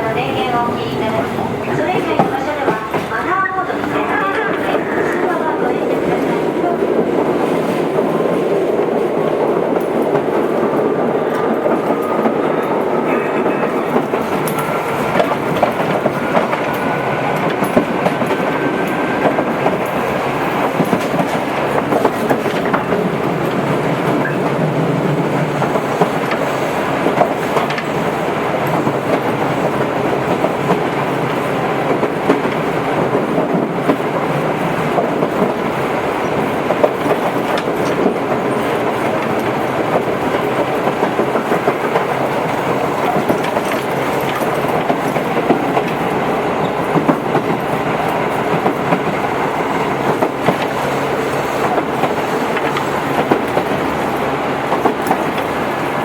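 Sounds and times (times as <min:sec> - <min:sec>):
train rumble: 0:00.0 - 0:56.0
rail-joint clicks: 0:01.0 - 0:56.0.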